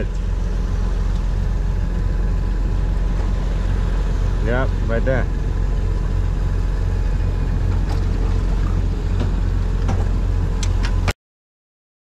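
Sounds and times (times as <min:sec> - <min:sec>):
boat engine rumbling: 0:00.0 - 0:11.1.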